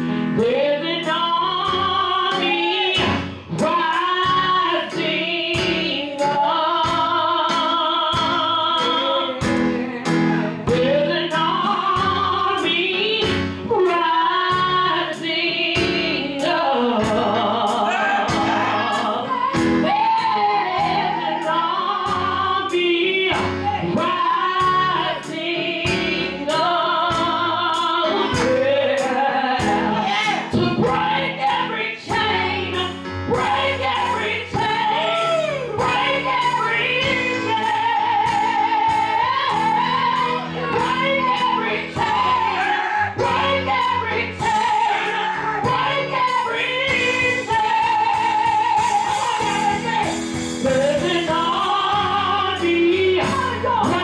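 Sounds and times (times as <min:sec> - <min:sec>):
band playing gospel music: 0:00.0 - 0:54.0
person singing with vibrato: 0:00.0 - 0:54.0.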